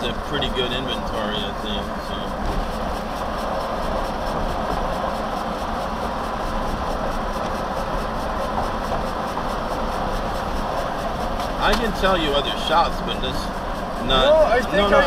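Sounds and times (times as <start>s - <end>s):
engine hum: 0.0s - 15.0s
road noise inside vehicle: 0.0s - 15.0s.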